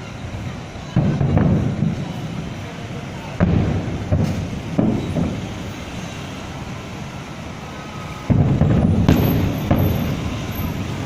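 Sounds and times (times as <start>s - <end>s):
fireworks booming: 0.1s - 11.0s.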